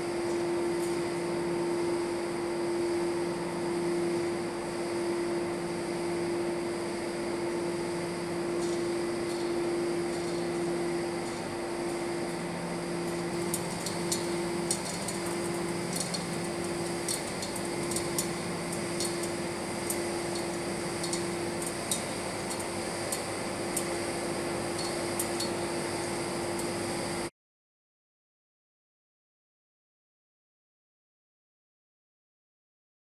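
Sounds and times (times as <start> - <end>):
machinery hum with low tone: 0.0 - 27.3.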